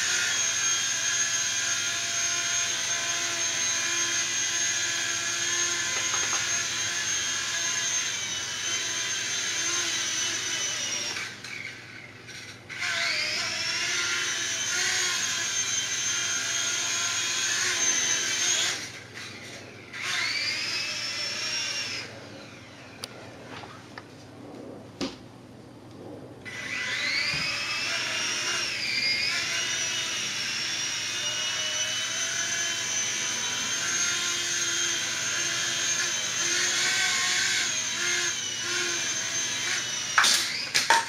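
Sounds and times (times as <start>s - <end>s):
toy helicopter motors whining: 0.0s - 23.2s, 26.4s - 41.0s.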